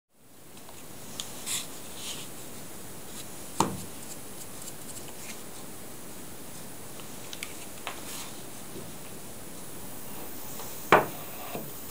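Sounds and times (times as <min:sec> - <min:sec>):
room hiss: 0:00.1 - 0:11.9.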